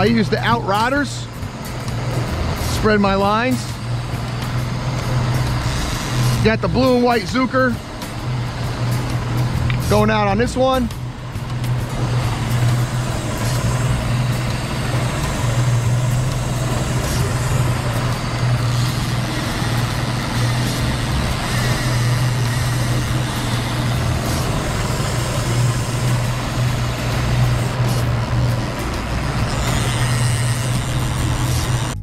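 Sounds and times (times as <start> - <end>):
boat wake hissing: 0.0 - 32.0
outboard motor droning: 0.0 - 32.0.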